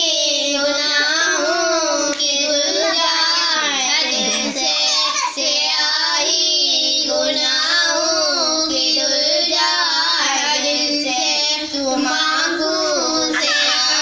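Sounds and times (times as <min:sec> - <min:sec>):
girls singing a devotional hymn: 0:00.0 - 0:14.0.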